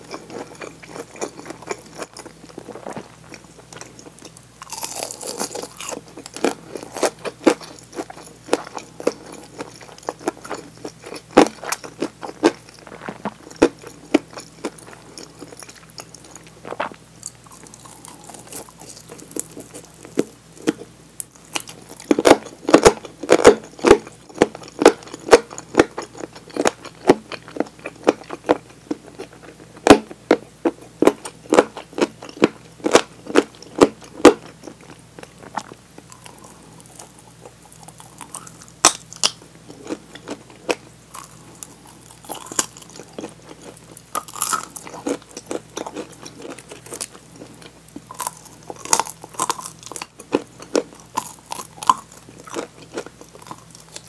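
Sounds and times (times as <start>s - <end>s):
crunching and chewing food: 0.0s - 54.0s.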